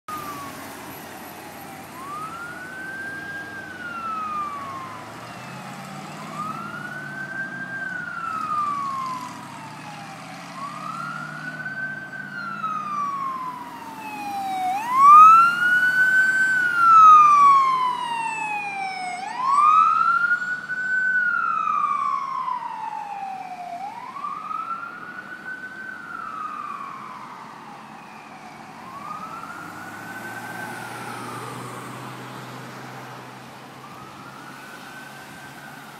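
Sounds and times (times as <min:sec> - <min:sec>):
ambulance siren wailing: 0:00.0 - 0:35.9.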